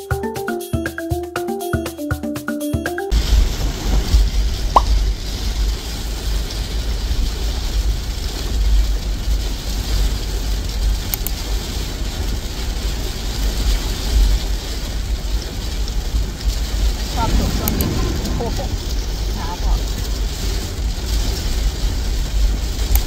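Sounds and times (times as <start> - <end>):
rain hiss: 3.1 - 23.0.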